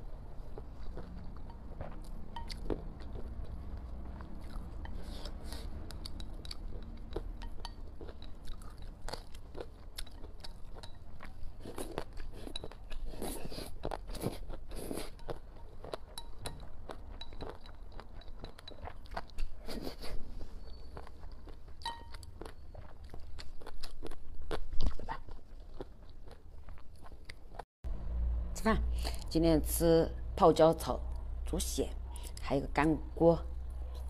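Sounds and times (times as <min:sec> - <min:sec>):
person chewing and slurping noodles: 0:00.0 - 0:27.6.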